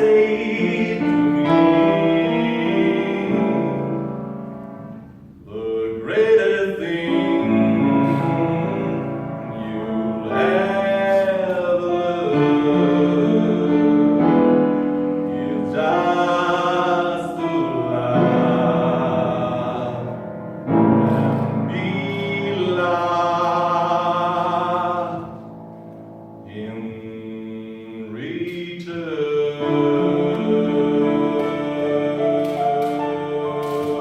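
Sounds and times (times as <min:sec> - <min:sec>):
instrumental accompaniment: 0:00.0 - 0:34.0
person singing with vibrato: 0:00.0 - 0:34.0.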